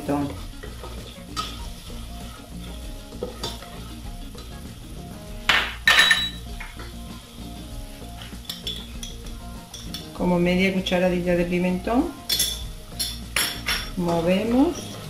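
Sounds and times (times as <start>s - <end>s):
spatula stirring in a pot: 0.0s - 5.5s, 6.3s - 11.0s, 12.2s - 15.0s
onion sizzling in oil: 0.0s - 15.0s.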